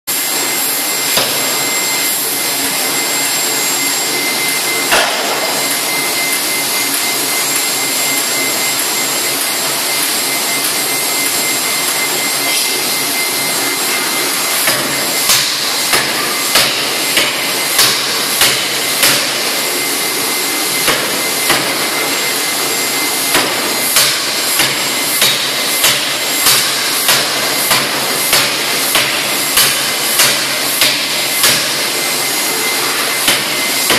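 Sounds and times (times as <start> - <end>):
compressor air rush: 0.1 - 33.9
forging hammer blows on hot metal: 0.1 - 33.9.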